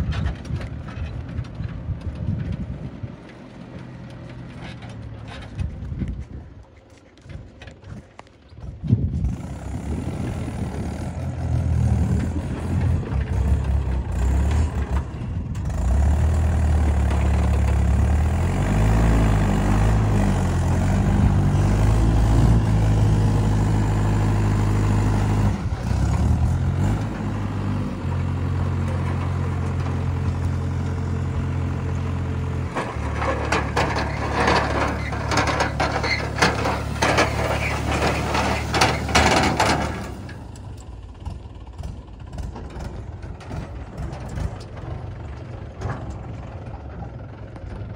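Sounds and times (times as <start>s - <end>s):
tractor diesel engine revving: 9.1s - 47.9s.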